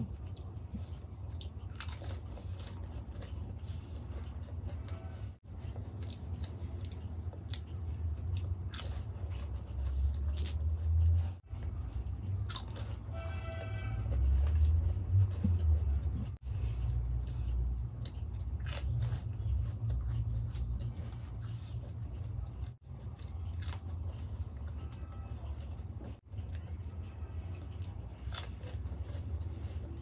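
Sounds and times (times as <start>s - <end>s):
chewing and crunching: 0.0s - 30.0s.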